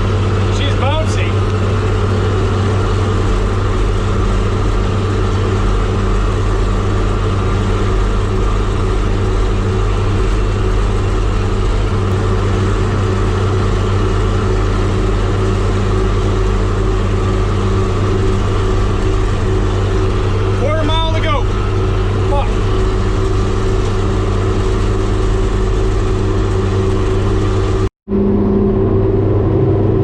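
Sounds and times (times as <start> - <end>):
tractor engine drone: 0.0 - 30.0.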